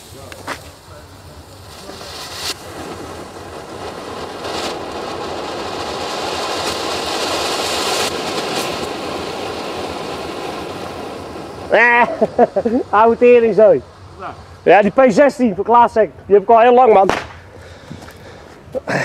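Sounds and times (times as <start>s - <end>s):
firework crackles: 0.0s - 19.0s
firework fountain hissing: 0.0s - 19.0s.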